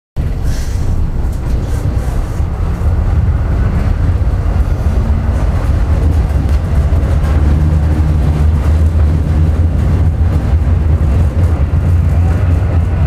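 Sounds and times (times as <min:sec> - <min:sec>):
tram rumbling on track: 0:00.2 - 0:13.0.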